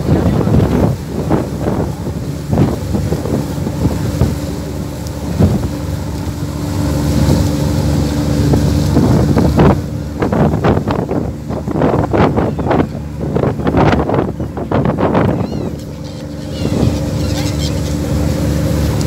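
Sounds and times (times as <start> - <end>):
boat engine humming: 0.0 - 19.0
wind buffeting microphone: 0.0 - 19.0.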